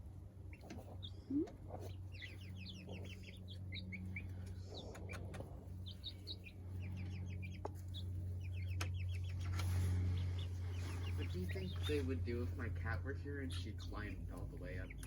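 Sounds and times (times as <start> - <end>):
chicks peeping: 0.0 - 15.0
steady low hum: 0.0 - 15.0.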